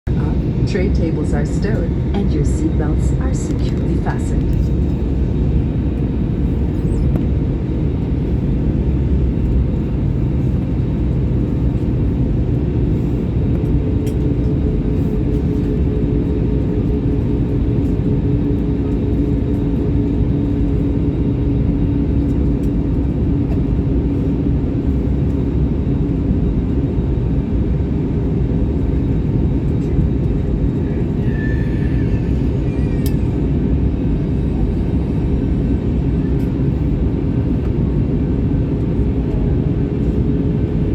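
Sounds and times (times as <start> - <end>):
jet engine rumble and rushing air: 0.1 - 40.9
steady hum: 0.1 - 40.9.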